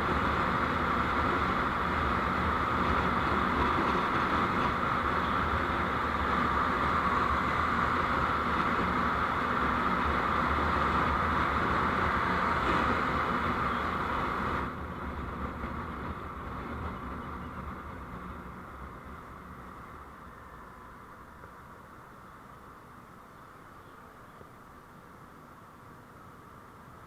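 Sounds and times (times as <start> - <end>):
vehicle road and engine noise: 0.0 - 27.0.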